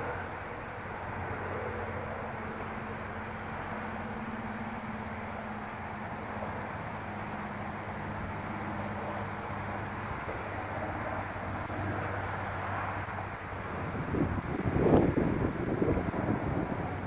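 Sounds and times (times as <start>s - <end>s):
low mechanical hum: 0.0s - 17.0s
outdoor rushing noise: 0.0s - 17.0s.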